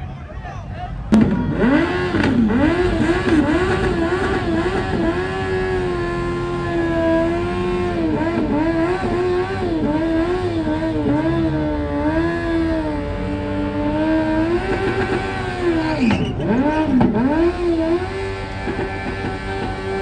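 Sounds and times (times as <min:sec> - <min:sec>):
vehicle engine revving: 0:01.0 - 0:20.0.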